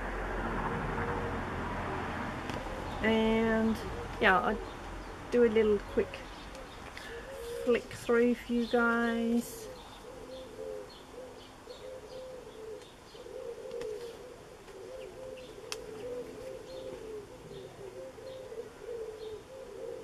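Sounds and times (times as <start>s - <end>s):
dove cooing: 0.9s - 1.6s, 2.4s - 4.8s, 5.4s - 20.0s
small birds chirping: 2.5s - 20.0s.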